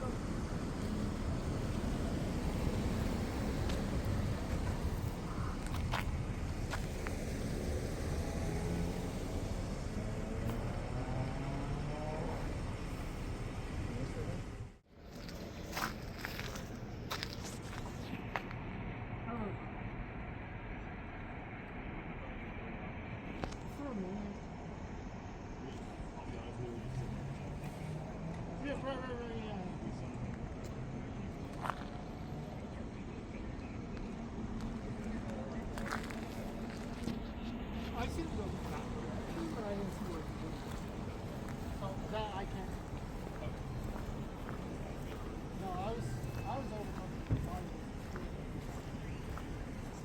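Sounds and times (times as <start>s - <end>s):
street traffic rumble: 0.0s - 50.0s
vehicle engine running: 0.0s - 50.0s.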